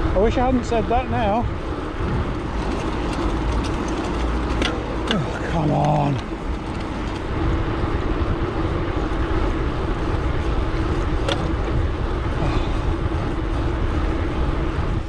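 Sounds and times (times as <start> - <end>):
constant hum: 0.0 - 15.0
wind rushing over microphone: 0.0 - 15.0.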